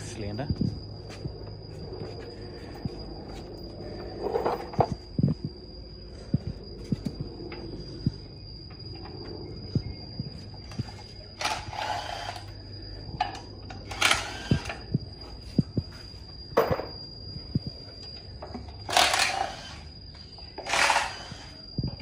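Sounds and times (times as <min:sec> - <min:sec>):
steady high-pitched whine: 0:00.0 - 0:22.0.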